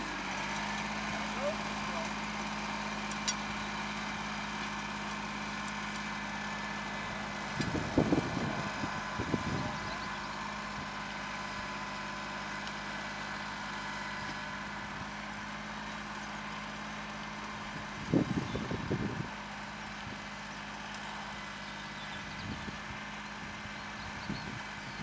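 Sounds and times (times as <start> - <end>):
trencher engine cutting turf: 0.0 - 25.0.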